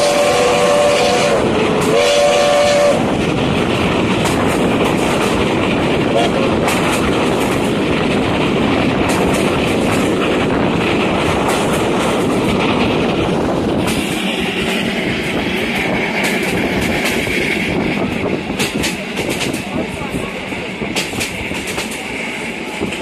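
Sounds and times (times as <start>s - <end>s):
clickety-clack of rail joints: 0.0s - 23.0s
train wheels rumbling on rail: 0.0s - 23.0s.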